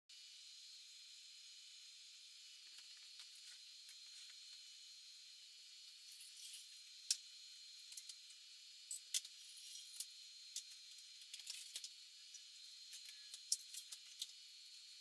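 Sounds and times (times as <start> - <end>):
thin whine: 0.1 - 15.0.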